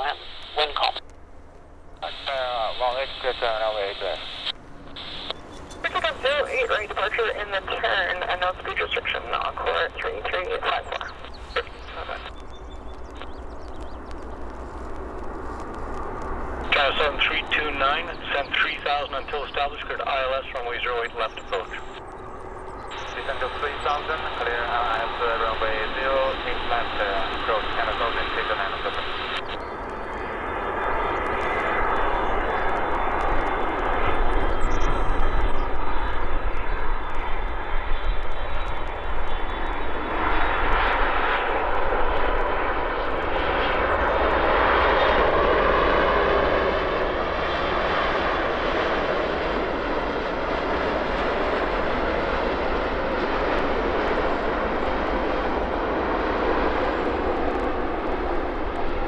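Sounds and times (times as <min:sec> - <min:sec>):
jet airliner landing: 0:00.0 - 0:59.0.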